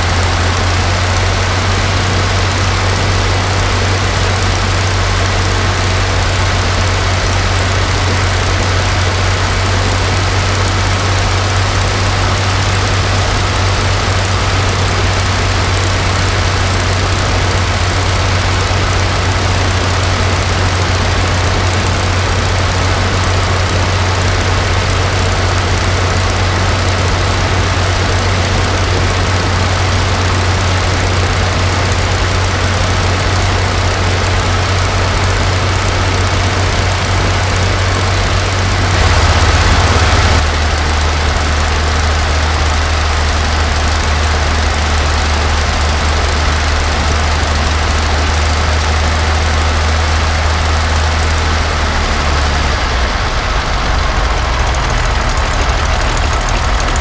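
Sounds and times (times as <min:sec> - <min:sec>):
aero engine running steadily: 0:00.0 - 0:57.0.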